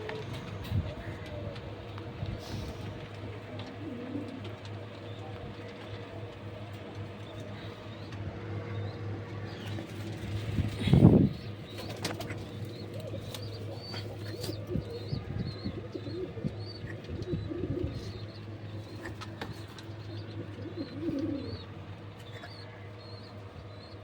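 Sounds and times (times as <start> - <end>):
pigeons cooing: 0.0 - 24.0
steady hum: 0.0 - 24.0.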